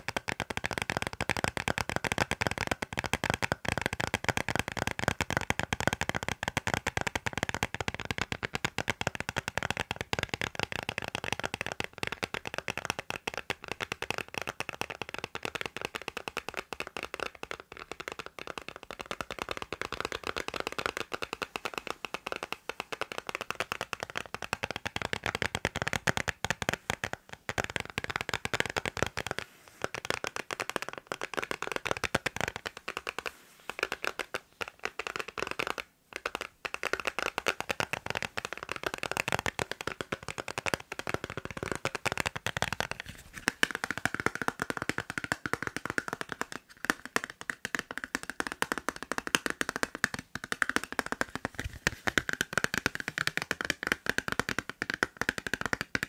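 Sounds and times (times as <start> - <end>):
fingers tapping on phone case: 0.0 - 56.0.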